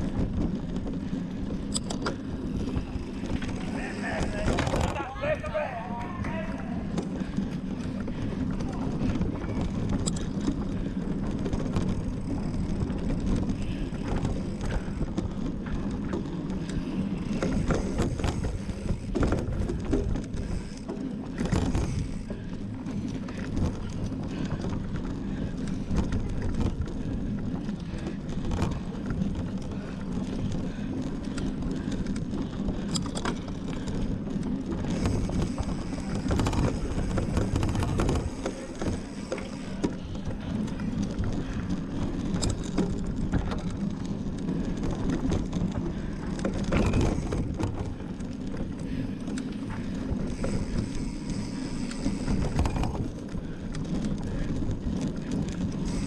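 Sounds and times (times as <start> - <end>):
bike chain clicks and rattles: 0.0 - 56.0
bike tyres rumbling: 0.0 - 56.0.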